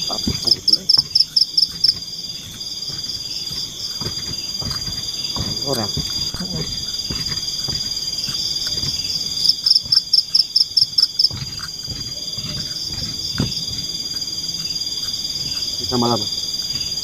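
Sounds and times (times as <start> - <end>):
soft knocks: 0.0 - 14.3
insects droning: 0.0 - 17.0.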